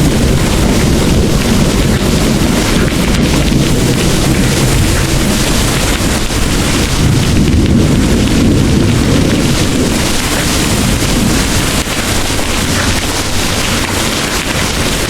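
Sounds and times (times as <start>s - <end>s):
heavy rain pouring: 0.0s - 15.0s
rolling thunder: 0.0s - 15.0s.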